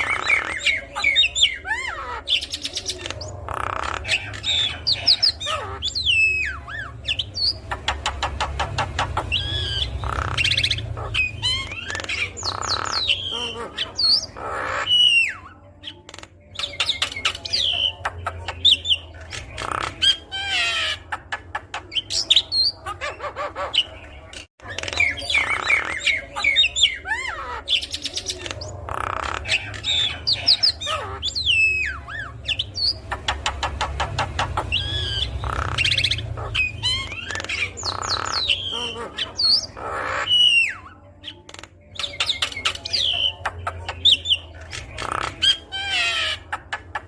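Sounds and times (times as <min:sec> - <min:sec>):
bird singing varied song: 0:00.0 - 0:47.0.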